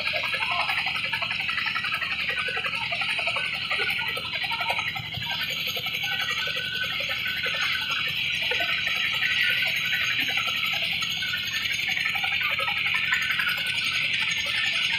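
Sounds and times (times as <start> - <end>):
helicopter engines whining: 0.0 - 14.9.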